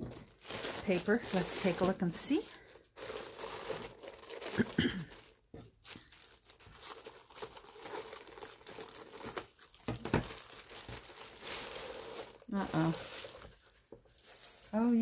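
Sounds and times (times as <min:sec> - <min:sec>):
plastic shrink-wrap crinkling and tearing: 0:00.0 - 0:15.0.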